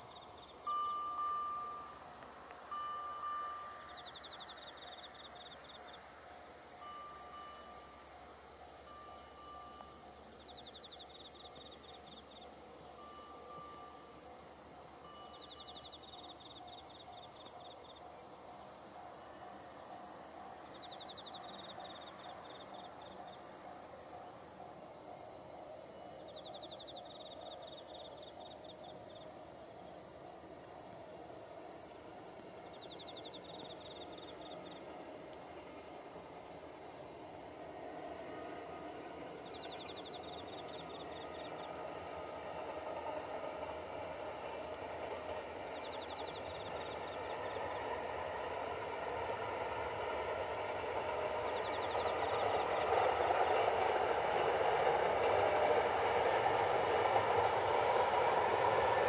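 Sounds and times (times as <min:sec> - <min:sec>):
insect pulsed trill: 0:00.0 - 0:55.1
distant freight train: 0:00.0 - 0:59.0.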